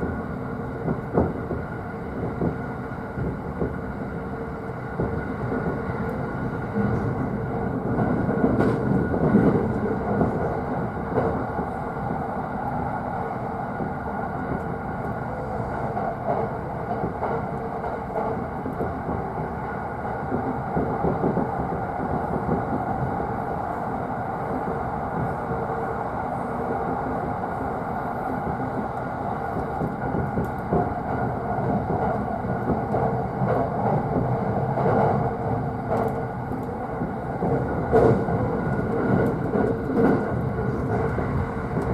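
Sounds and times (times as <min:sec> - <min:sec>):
train running rumble: 0:00.0 - 0:41.9.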